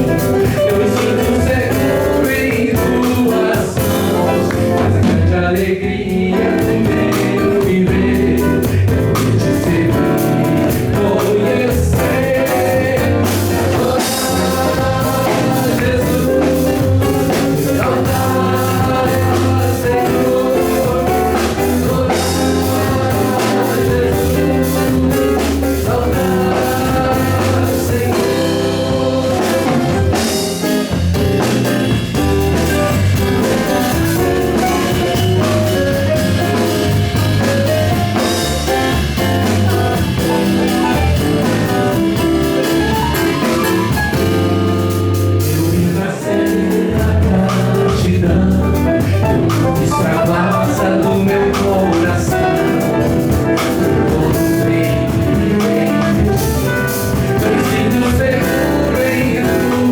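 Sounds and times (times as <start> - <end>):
electric bass line: 0.0 - 59.9
keyboard: 0.0 - 59.9
steady drum beat: 0.0 - 59.9.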